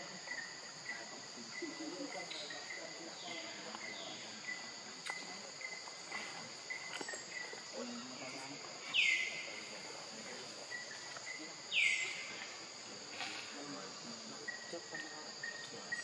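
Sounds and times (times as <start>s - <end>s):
steady high insect drone: 0.0s - 16.0s.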